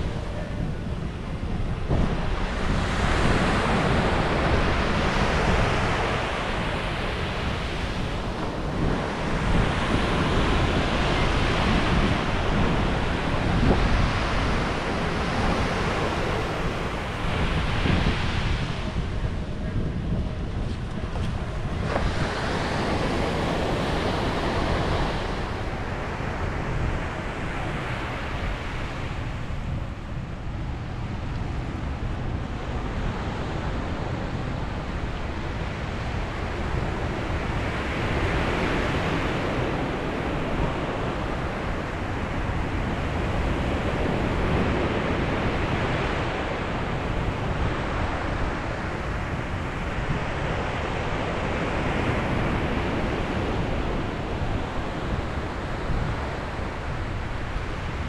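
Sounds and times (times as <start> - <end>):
ocean waves breaking on beach: 0.0 - 58.0
wind buffeting microphone: 0.0 - 58.0.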